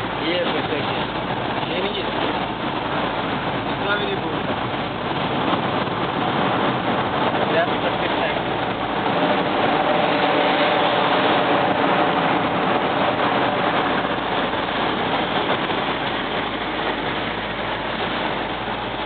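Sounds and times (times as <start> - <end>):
car road noise: 0.0 - 19.0.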